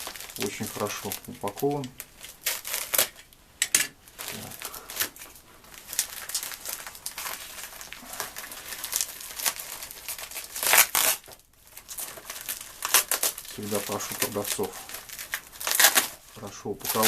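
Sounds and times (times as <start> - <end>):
parcel packaging crinkling and tearing: 0.0 - 3.4, 4.0 - 17.0.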